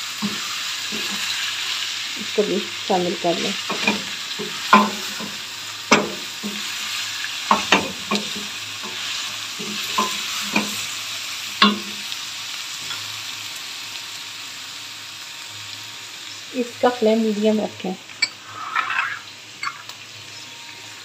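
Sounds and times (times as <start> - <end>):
meat and onions sizzling: 0.0 - 21.0.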